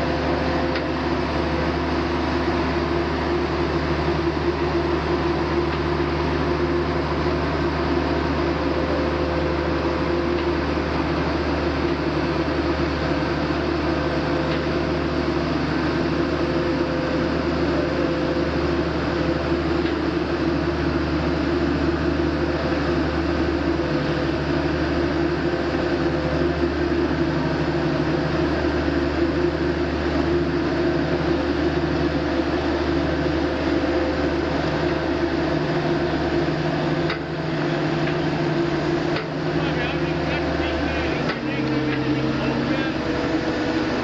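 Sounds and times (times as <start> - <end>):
diesel engine droning: 0.0 - 44.0
hydraulic whine: 0.0 - 44.0.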